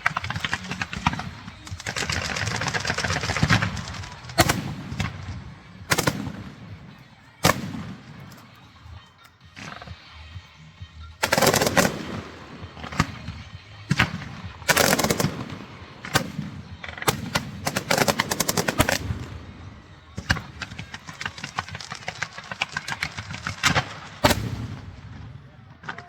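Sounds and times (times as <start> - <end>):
firecrackers cracking: 0.0 - 26.0.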